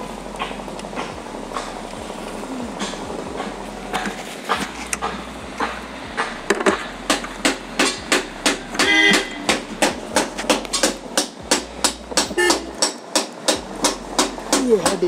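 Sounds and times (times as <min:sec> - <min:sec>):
hammering on metal: 0:02.8 - 0:15.0.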